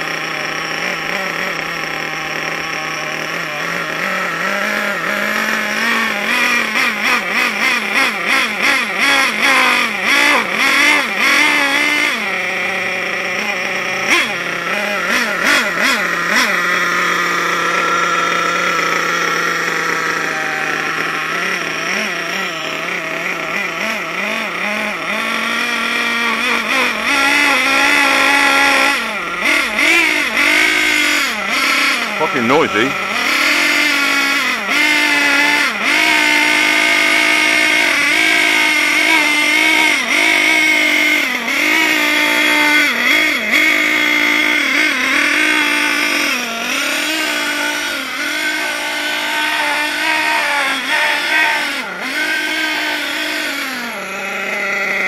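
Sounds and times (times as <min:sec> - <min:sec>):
model car engine revving: 0:00.0 - 0:55.0.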